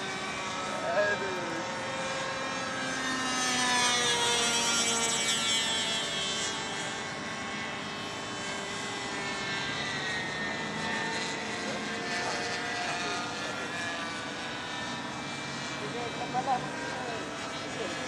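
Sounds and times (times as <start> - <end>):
model airplane motor droning: 0.0 - 18.0.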